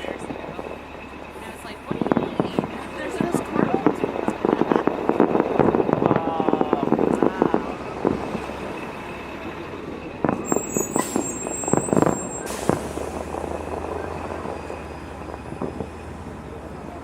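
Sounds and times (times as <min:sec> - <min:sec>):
distant fireworks bangs: 0:00.0 - 0:17.0
low background rumble: 0:00.0 - 0:17.0.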